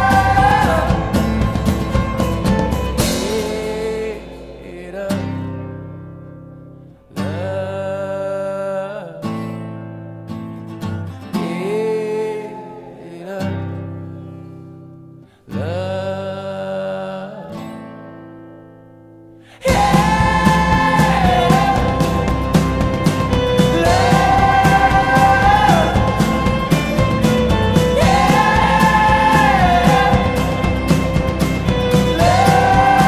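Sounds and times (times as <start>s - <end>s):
person singing: 0.0s - 5.6s, 7.2s - 9.4s, 11.4s - 14.3s, 15.4s - 17.7s, 19.5s - 33.0s
guitar: 0.0s - 33.0s.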